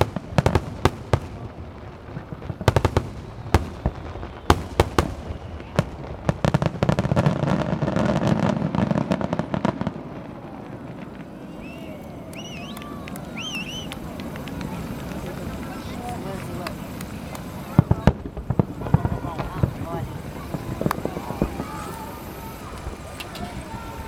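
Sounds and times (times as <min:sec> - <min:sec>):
fireworks bursting with echoing bangs: 0:00.0 - 0:24.0
rapid crackling of fireworks: 0:00.0 - 0:24.0.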